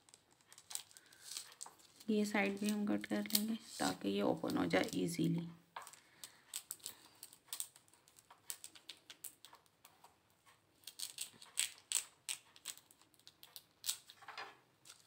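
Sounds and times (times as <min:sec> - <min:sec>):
plastic crackling: 0:00.0 - 0:10.1, 0:10.8 - 0:15.0.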